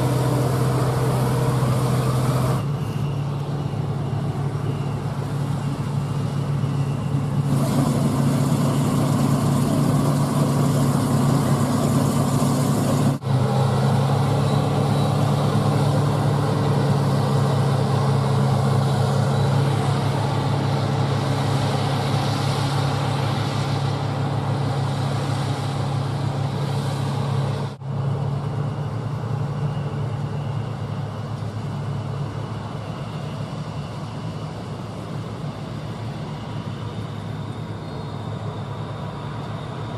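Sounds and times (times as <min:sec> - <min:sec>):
diesel engines running under load: 0:00.0 - 0:39.9.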